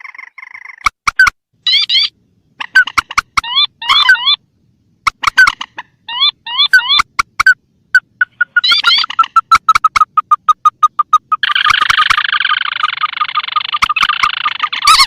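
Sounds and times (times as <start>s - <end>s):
recorded rail bird calls: 1.6s - 4.4s, 5.0s - 15.0s.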